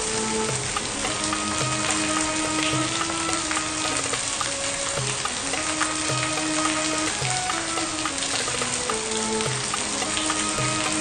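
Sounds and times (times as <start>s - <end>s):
drops ticking: 0.0s - 11.0s
quiet background music: 0.0s - 11.0s
rain on wet paving: 0.0s - 11.0s.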